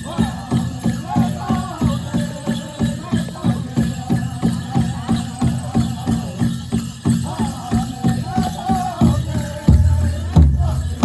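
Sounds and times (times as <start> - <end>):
big drum beat: 0.0 - 11.0
men singing high melody: 0.0 - 11.0.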